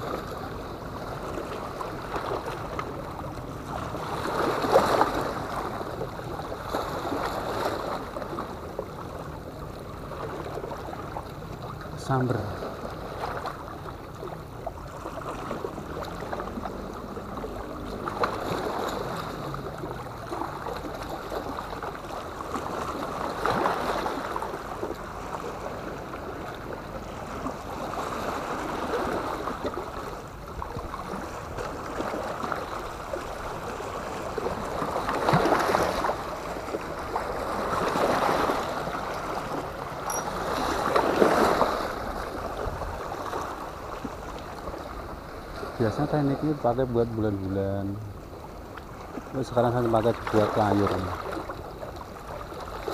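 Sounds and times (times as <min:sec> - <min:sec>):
sea water lapping against rocks: 0:00.0 - 0:52.9.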